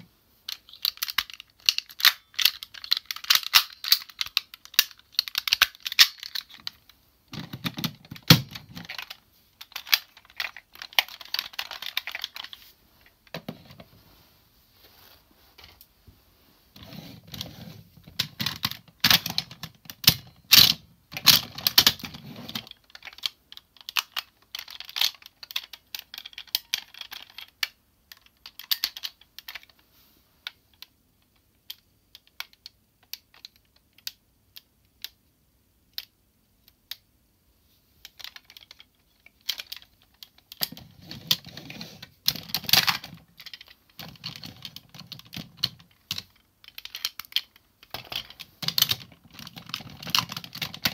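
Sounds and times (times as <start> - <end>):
plastic toy parts clicking: 0.5 - 12.6, 18.0 - 29.8, 30.4 - 35.2, 35.8 - 37.1, 38.0 - 41.6, 42.2 - 50.9.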